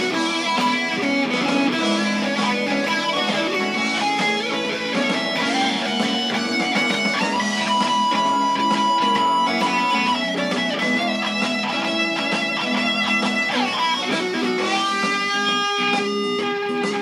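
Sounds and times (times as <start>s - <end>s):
electric guitar lead lines: 0.0s - 17.0s
recorded backing track: 0.0s - 17.0s.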